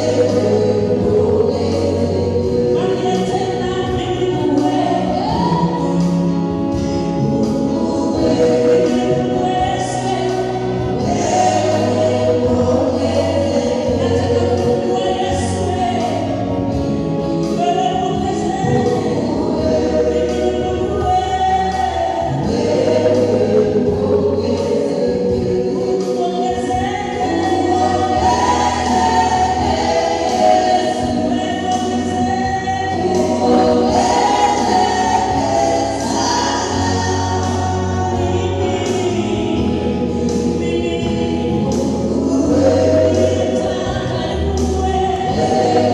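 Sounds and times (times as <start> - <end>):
gospel choir singing: 0.0 - 45.9
low bass notes: 0.0 - 45.9.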